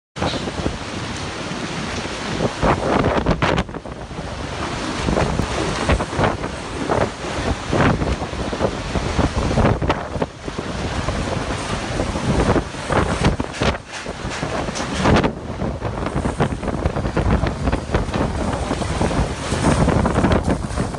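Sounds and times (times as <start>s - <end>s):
gusting wind buffeting microphone: 0.2s - 20.9s.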